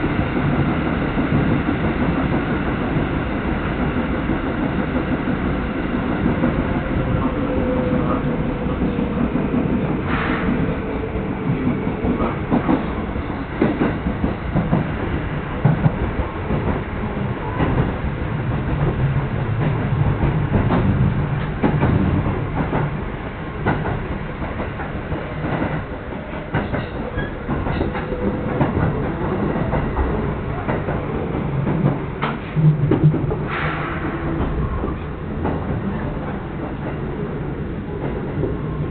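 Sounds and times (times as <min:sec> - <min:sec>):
rail joint clicks and clacks: 0:00.0 - 0:38.9
train wheels rumbling on rails: 0:00.0 - 0:38.9.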